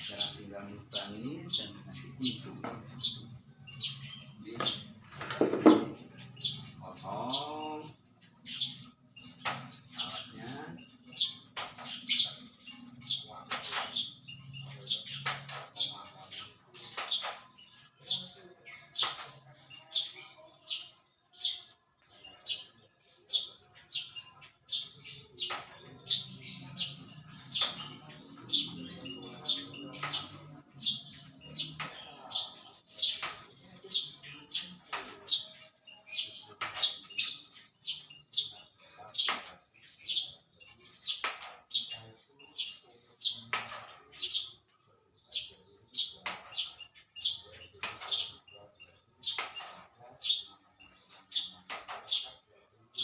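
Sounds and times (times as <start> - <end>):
small bird chirping: 0.0 - 53.0.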